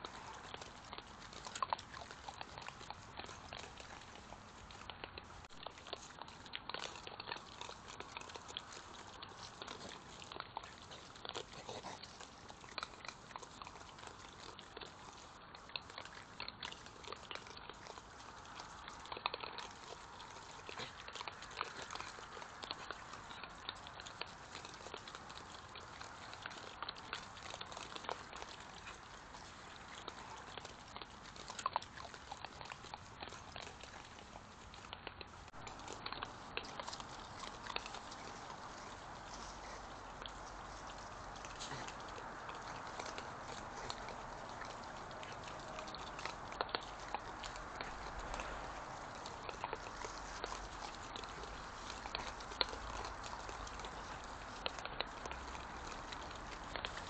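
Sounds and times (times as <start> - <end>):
badgers chewing and crunching food: 0.0 - 57.0.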